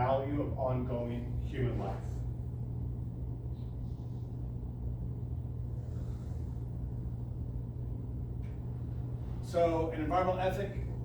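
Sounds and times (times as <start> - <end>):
faint rumble: 0.0 - 11.0
low background hum: 0.0 - 11.0.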